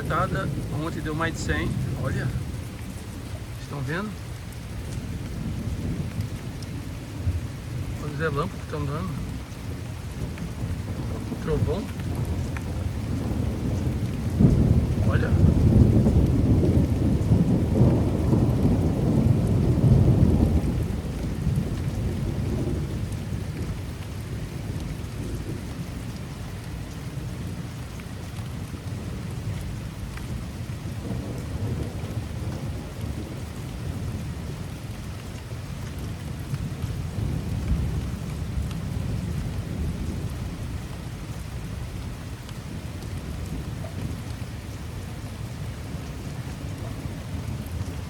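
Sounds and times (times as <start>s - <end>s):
heavy rain: 0.0s - 48.0s
thunder rumbling: 0.0s - 48.0s.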